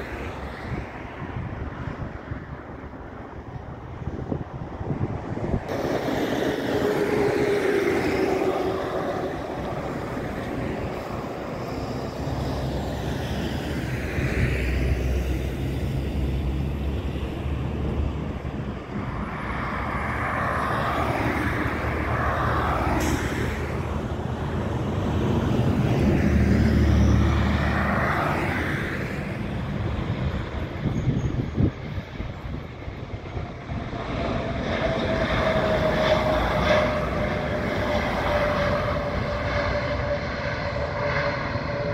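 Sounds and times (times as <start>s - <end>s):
jet engines droning: 0.0s - 41.9s.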